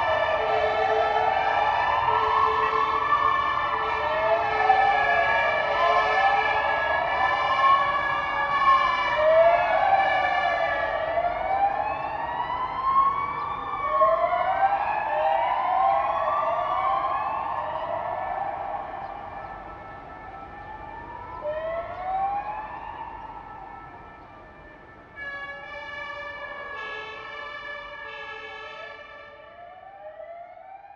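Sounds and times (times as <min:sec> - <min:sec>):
fire engine sirens wailing: 0:00.0 - 0:30.9.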